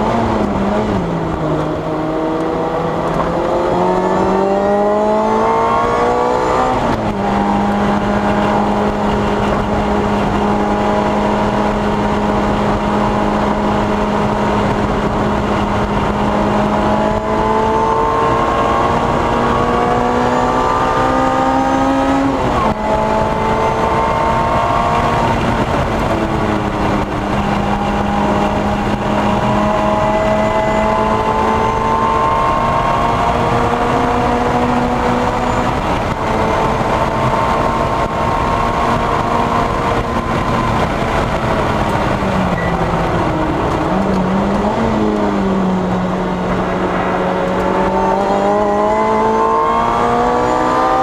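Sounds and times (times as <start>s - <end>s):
car engine accelerating hard: 0.0s - 51.0s
road and wind noise: 0.0s - 51.0s.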